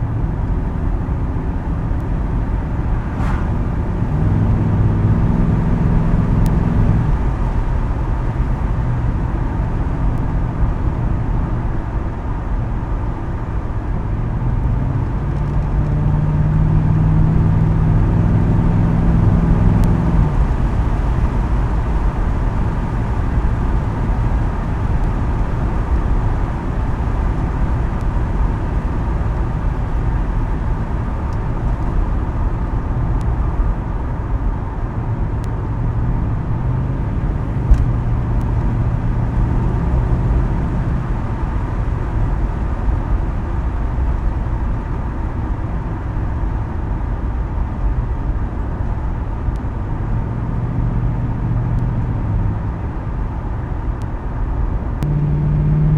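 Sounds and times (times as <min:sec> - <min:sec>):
car exhaust note while driving: 0:00.0 - 0:55.9
steady low rumble: 0:00.0 - 0:55.9.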